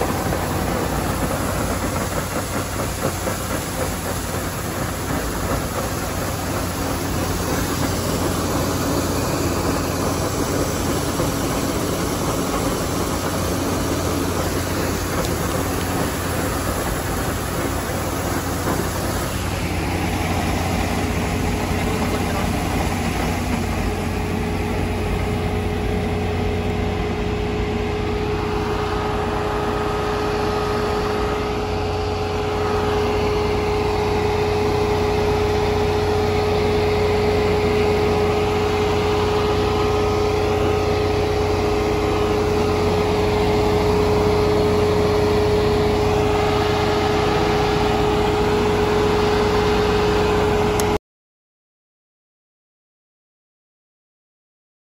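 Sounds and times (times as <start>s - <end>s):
diesel engine running: 0.0s - 51.0s
steady whine: 0.0s - 51.0s.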